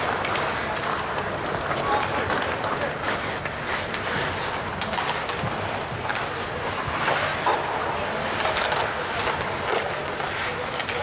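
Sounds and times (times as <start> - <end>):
hockey sticks and puck clicking: 0.0 - 11.0
skates scraping on ice: 0.0 - 11.0.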